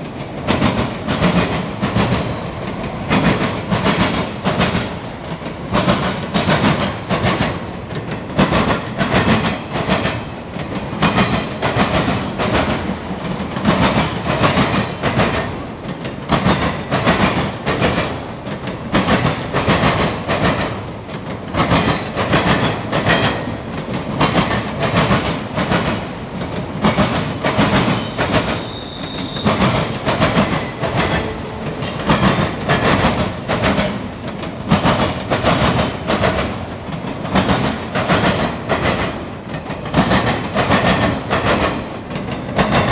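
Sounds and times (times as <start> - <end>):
freight train wheels clicking on rails: 0.0 - 42.9.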